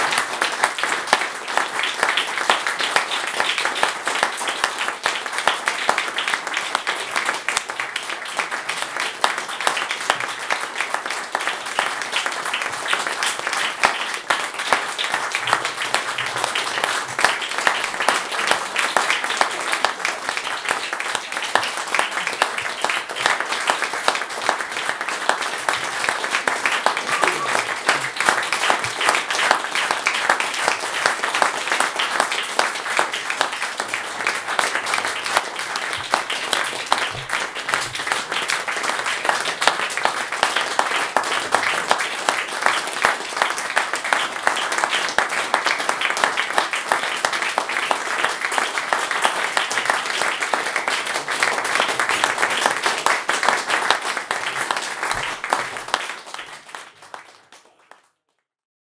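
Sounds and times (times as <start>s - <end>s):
audience applauding: 0.0s - 58.2s.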